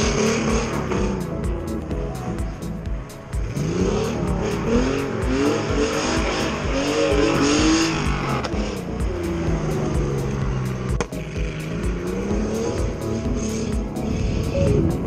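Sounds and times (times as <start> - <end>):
car engine revving: 0.0 - 15.0
music with steady beat: 0.0 - 15.0.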